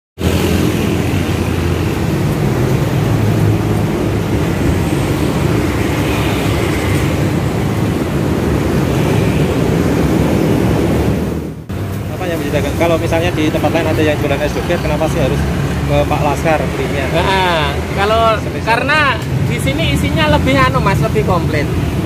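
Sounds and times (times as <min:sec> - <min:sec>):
small motorcycles passing: 0:00.2 - 0:10.8, 0:11.8 - 0:21.6.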